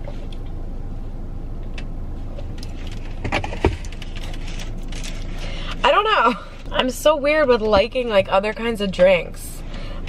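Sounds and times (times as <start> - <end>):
low rumble inside car: 0.0 - 10.0.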